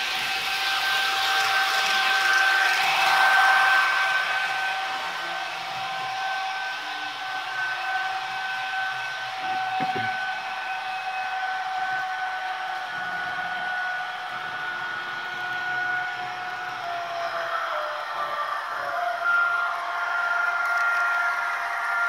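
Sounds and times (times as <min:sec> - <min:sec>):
model locomotive electric whine: 0:00.0 - 0:22.0.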